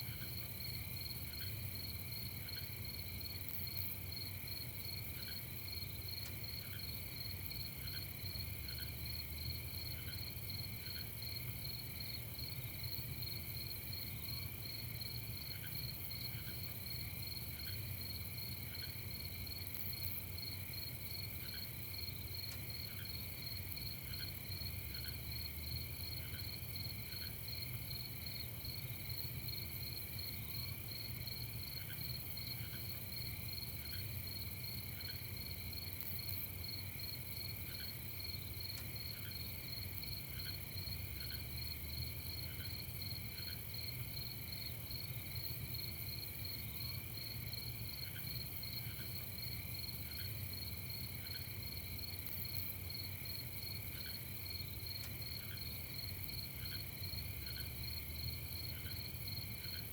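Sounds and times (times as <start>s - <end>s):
crickets trilling: 0.2s - 59.9s.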